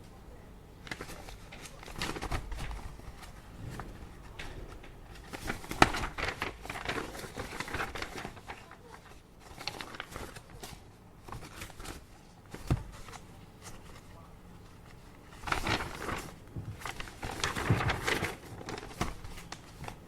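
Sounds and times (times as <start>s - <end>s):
paper rustling: 0.8s - 20.0s.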